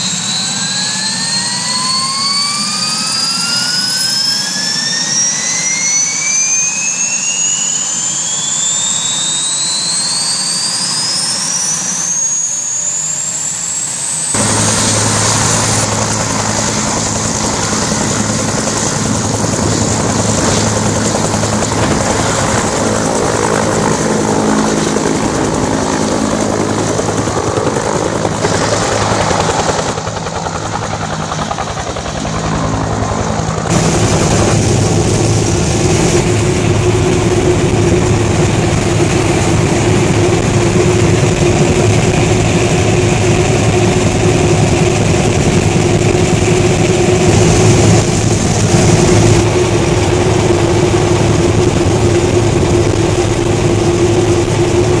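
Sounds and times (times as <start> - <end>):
helicopter cabin engine drone: 0.0 - 55.0
helicopter rotor and engine: 0.0 - 55.0.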